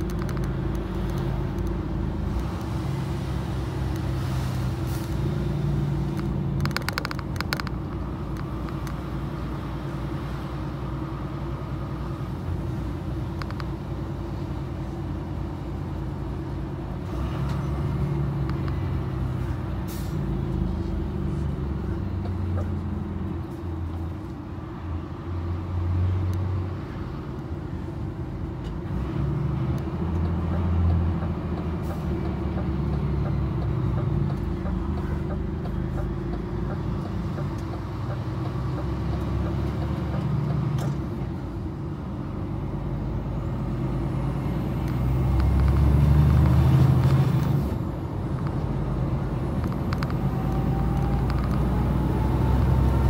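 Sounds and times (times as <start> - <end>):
tyre and road noise: 0.0 - 53.0.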